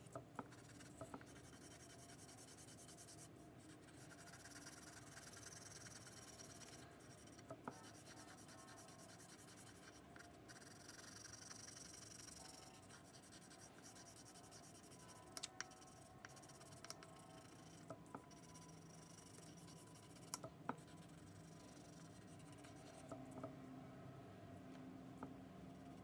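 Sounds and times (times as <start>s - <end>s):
crayon scratching on paper: 0.4s - 23.2s.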